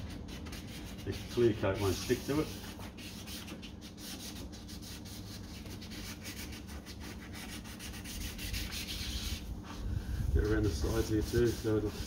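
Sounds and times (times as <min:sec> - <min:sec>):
sandpaper rubbing on plastic: 0:00.0 - 0:12.0.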